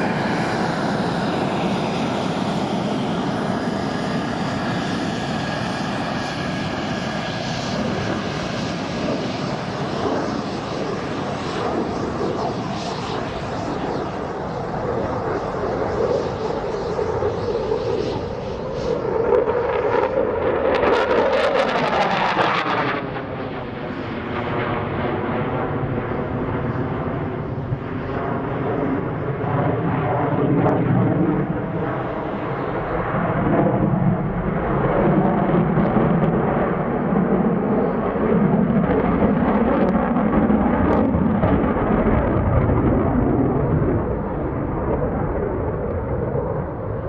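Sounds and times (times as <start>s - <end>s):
fighter jet engine roar: 0.0s - 47.0s.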